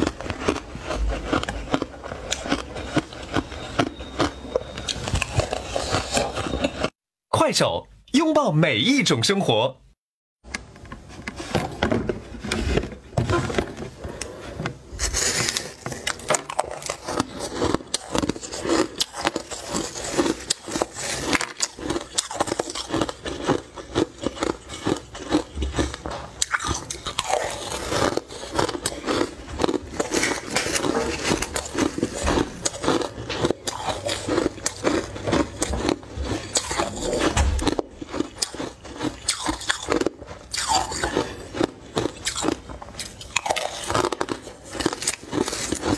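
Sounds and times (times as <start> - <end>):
crushed ice being chewed: 0.0 - 7.0, 13.7 - 45.9.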